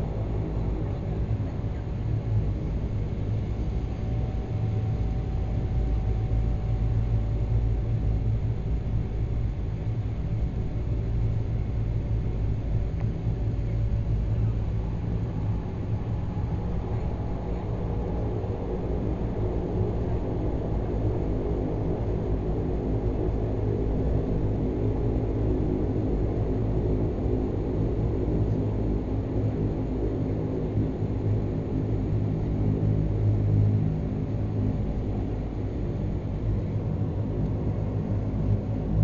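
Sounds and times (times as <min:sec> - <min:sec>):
turboprop engines droning: 0:00.0 - 0:39.0.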